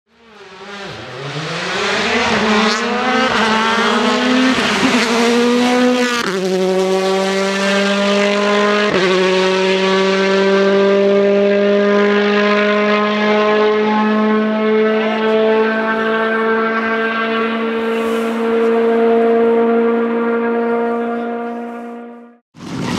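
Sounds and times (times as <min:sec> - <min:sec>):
rally car engine revving: 0:00.1 - 0:22.9.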